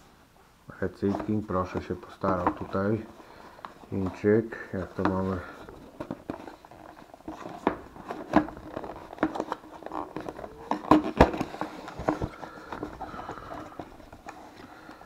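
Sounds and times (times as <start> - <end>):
cardboard scraping and rustling: 0.9 - 15.0.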